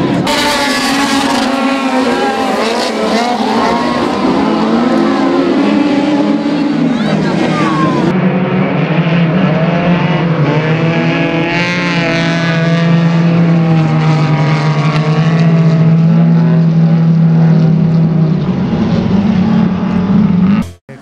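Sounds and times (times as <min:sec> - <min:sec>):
race cars passing by: 0:00.0 - 0:20.7
race car engines drone: 0:00.0 - 0:21.0.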